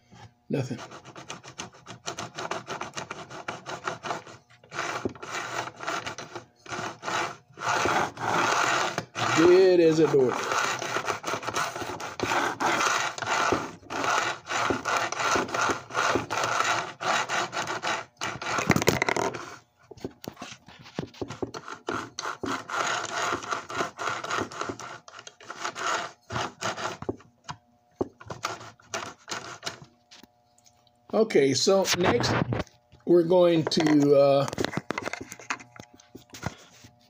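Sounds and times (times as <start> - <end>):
rubbing and scraping strokes: 0.1 - 27.2, 28.0 - 30.2, 33.4 - 37.0.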